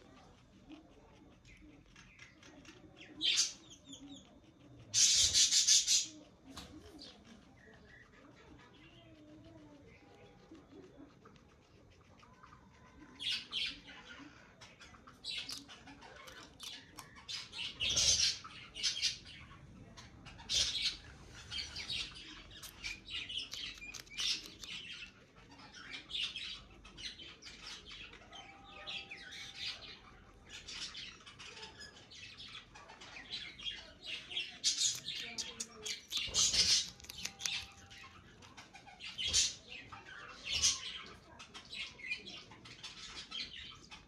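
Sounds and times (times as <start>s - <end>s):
guinea pig crunching bean: 0.0s - 44.0s.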